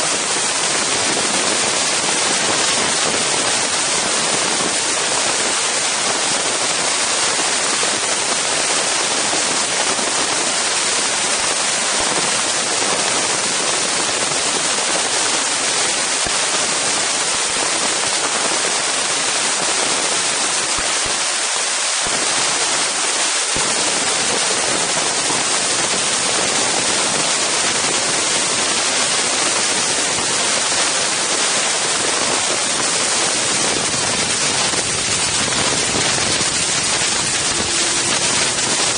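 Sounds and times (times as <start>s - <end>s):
strong wind noise: 0.0s - 38.9s.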